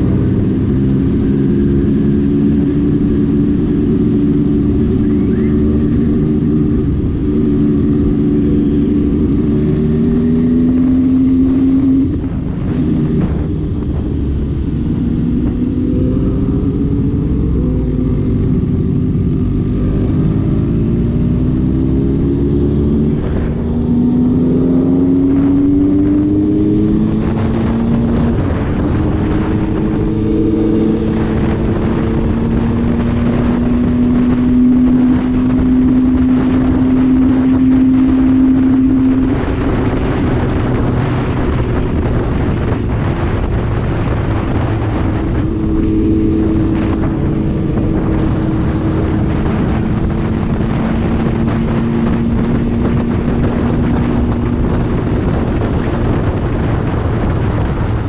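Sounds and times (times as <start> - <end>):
motorcycle engine accelerating: 0.0 - 58.0
wind and road noise: 0.0 - 58.0.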